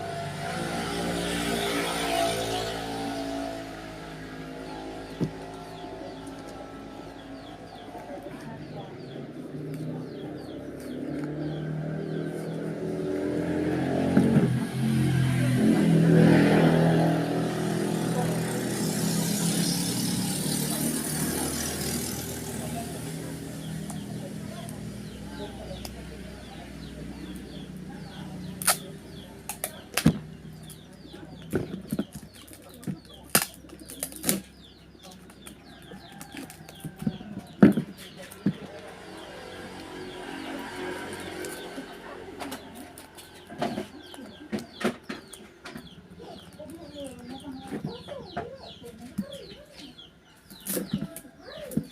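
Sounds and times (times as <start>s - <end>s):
vehicle engine running: 0.0s - 50.2s.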